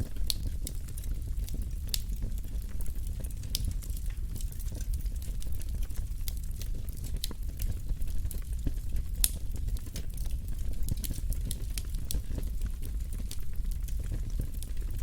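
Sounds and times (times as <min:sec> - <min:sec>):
fire crackling and popping: 0:00.0 - 0:15.0
wood fire rumbling: 0:00.0 - 0:15.0.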